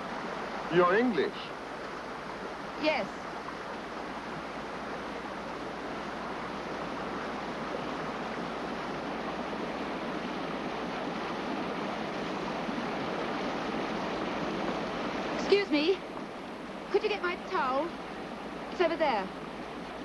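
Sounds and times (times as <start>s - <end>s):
sea surf rushing: 0.0s - 20.0s.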